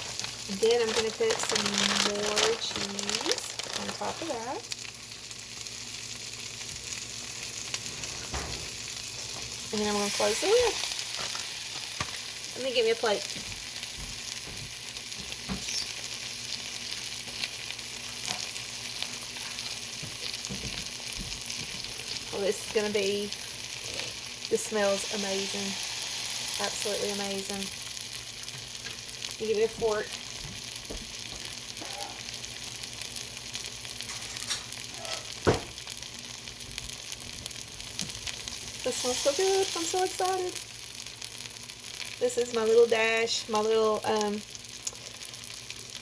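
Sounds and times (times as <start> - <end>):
small crackles and pops: 0.0 - 9.6, 10.2 - 24.6, 25.6 - 46.0
food sizzling in waffle maker: 0.0 - 46.0.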